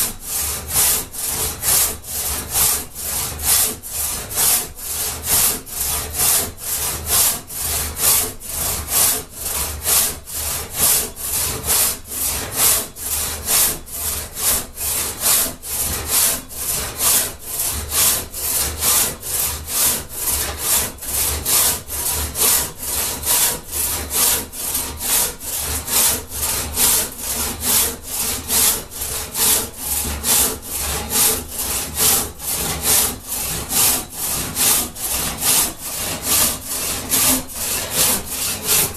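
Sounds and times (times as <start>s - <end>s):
crosscut saw cutting log: 0.0s - 38.9s.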